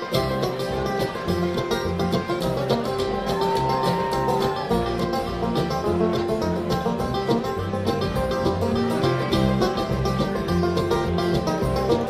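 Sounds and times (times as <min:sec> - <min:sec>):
bluegrass banjo music: 0:00.0 - 0:12.0.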